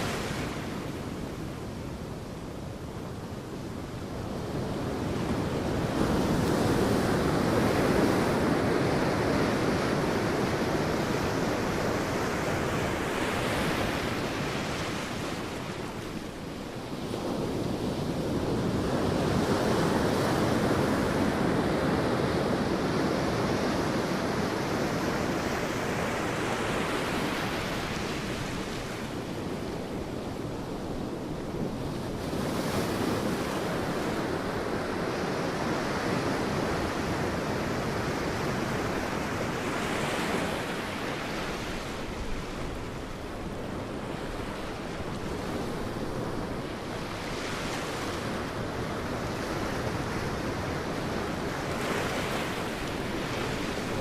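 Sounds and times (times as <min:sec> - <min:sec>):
sea surf breaking on beach: 0:04.0 - 0:54.0.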